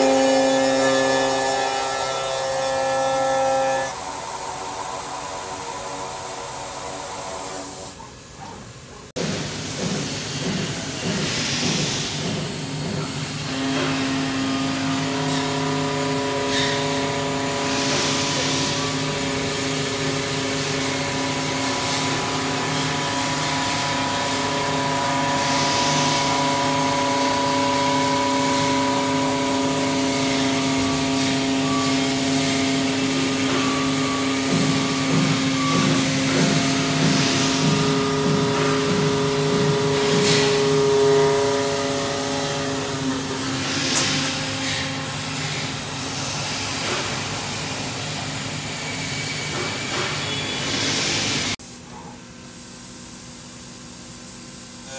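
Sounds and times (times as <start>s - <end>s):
machine whine: 0.0s - 8.0s, 12.2s - 51.6s.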